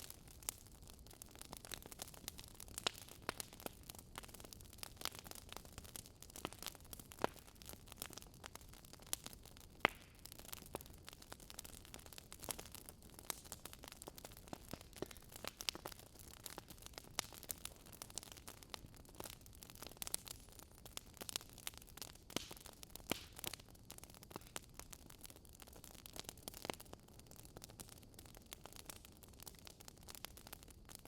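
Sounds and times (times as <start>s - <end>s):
burning logs popping and snapping: 0.0s - 31.0s
low steady fire hiss: 0.0s - 31.0s.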